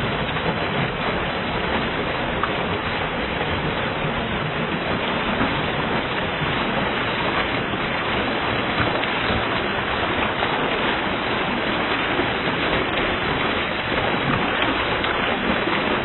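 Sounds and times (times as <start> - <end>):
river water pouring over waterfall: 0.0 - 16.0.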